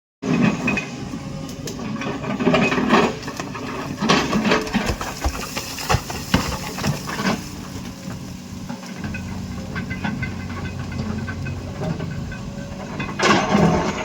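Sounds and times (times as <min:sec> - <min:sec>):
excavator engine running: 0:00.2 - 0:14.0
bucket scraping rock and soil: 0:01.8 - 0:14.0.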